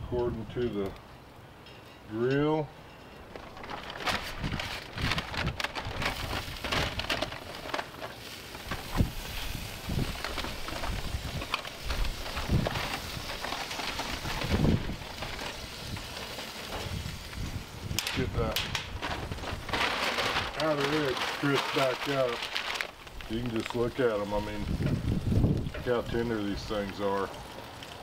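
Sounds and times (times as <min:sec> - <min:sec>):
aluminium foil crinkling: 0:03.3 - 0:28.0.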